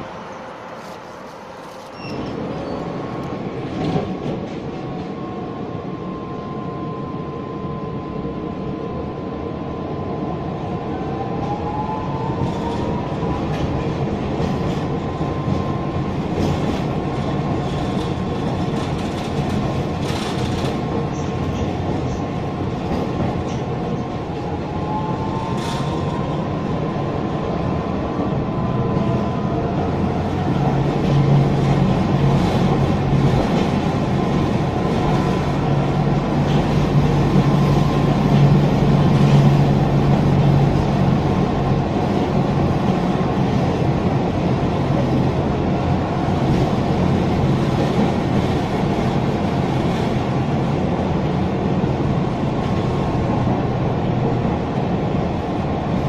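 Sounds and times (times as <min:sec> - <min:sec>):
tram rolling on rails: 0:00.0 - 0:56.0.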